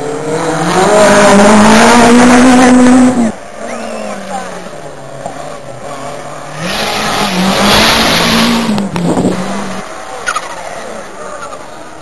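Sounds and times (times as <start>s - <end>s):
rally car engine revving: 0.0s - 12.0s
tyre and road noise: 0.0s - 12.0s.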